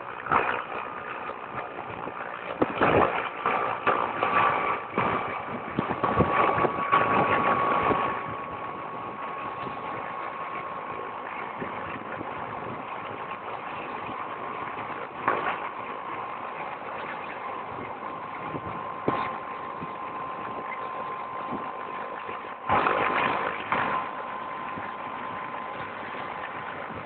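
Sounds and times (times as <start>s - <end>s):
loud uneven noise: 0.0s - 27.0s
turbine helicopter engine idling: 0.0s - 27.0s.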